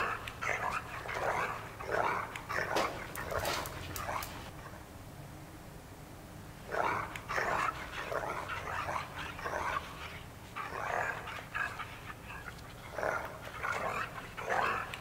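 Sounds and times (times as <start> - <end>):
dog yipping and growling: 0.0 - 4.5, 6.7 - 15.0.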